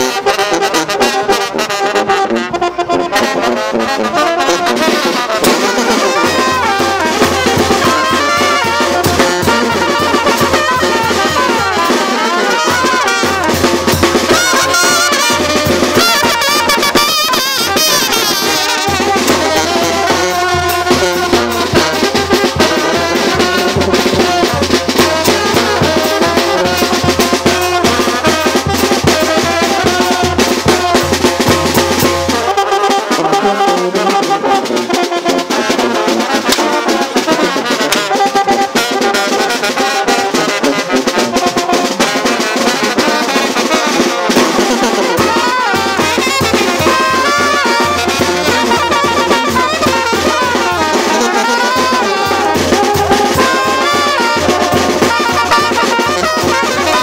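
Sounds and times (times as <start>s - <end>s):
brass band dance music: 0.0s - 57.0s.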